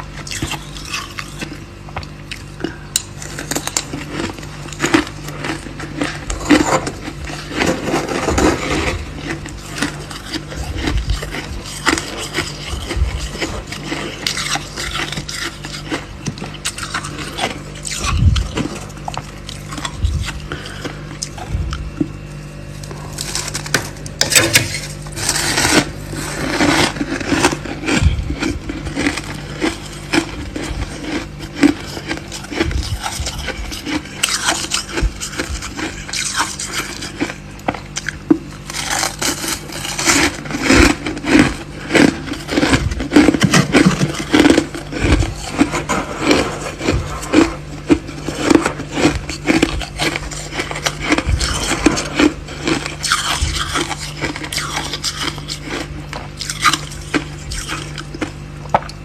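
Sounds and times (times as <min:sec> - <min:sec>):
crunching between teeth: 0:00.0 - 0:59.0
steady low hum: 0:00.0 - 0:59.0.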